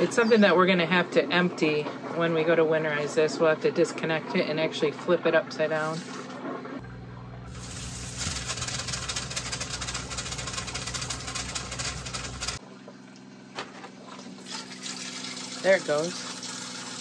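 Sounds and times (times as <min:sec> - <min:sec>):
water pump pulsing hum: 0:00.0 - 0:17.0.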